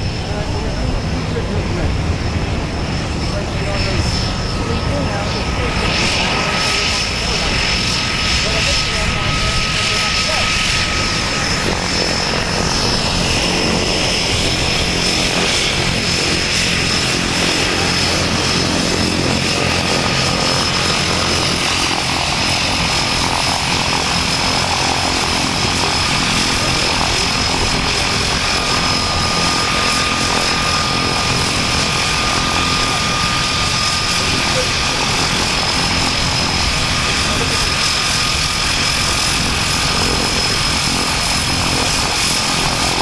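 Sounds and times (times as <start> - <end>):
high turbine whine: 0.0 - 43.0
propeller drone: 0.0 - 43.0.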